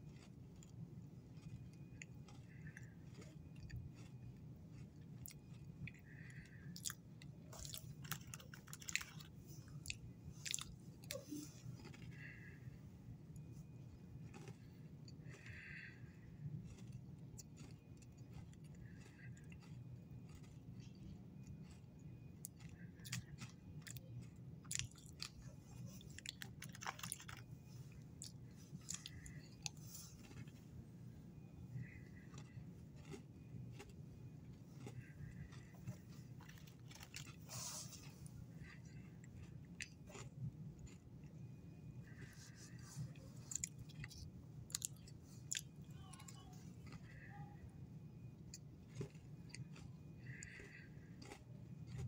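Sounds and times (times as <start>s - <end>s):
cookie chewing and crunching: 0.0s - 52.0s
steady low hum: 0.0s - 52.0s.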